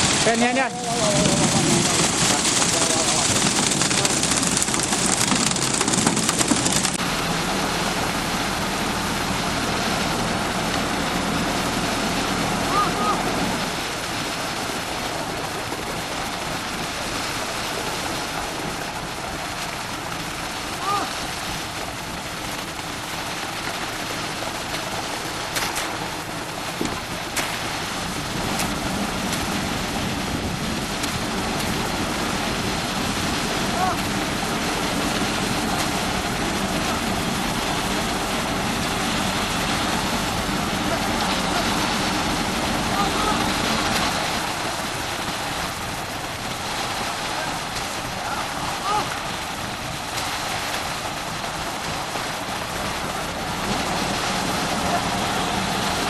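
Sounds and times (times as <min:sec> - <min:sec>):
concrete mixer truck running: 0:00.0 - 0:56.0
hissing crackling rush: 0:00.0 - 0:56.0.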